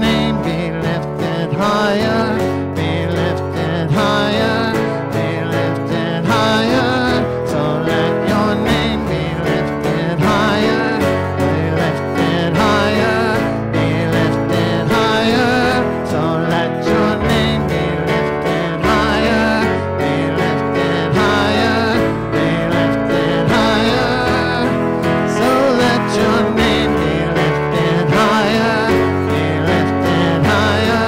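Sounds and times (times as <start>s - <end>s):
acoustic guitar: 0.0s - 31.0s
keyboard: 0.0s - 31.0s
person singing: 0.0s - 31.0s.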